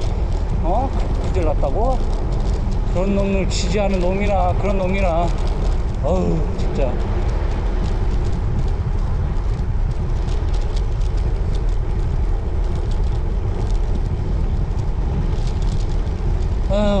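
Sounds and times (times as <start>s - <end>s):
bicycle tyre road noise: 0.0s - 17.0s
wind noise on microphone: 0.0s - 17.0s.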